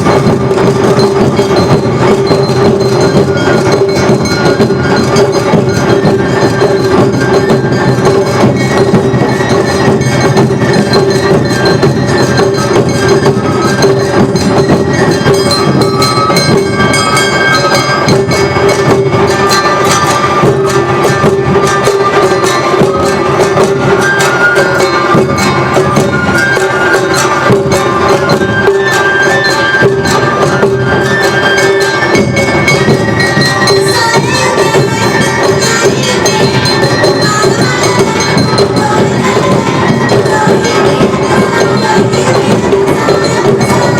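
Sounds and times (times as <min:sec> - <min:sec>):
clanging hand gongs: 0:00.0 - 0:43.9
drums: 0:00.0 - 0:43.9
flute: 0:00.0 - 0:43.9.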